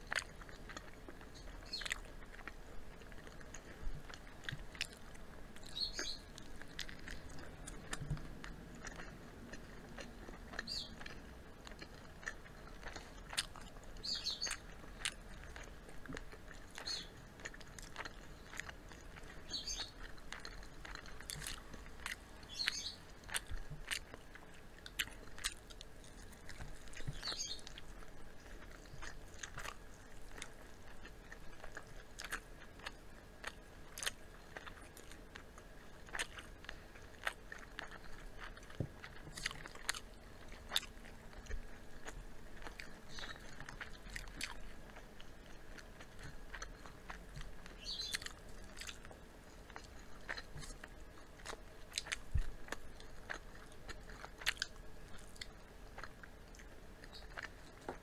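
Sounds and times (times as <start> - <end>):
crunching fried chicken: 0.0 - 58.0
wet chewing: 0.0 - 58.0.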